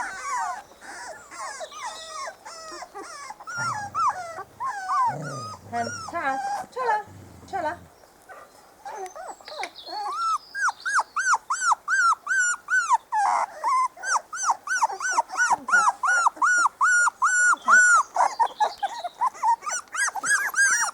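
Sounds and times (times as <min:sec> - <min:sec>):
puppies whining: 0:00.0 - 0:20.9.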